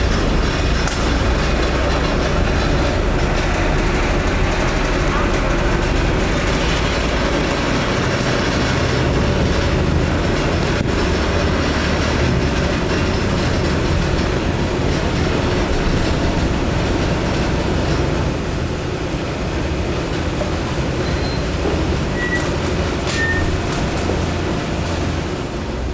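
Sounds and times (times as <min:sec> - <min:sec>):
hydraulic compactor motor humming: 0:00.0 - 0:19.0, 0:20.2 - 0:25.9.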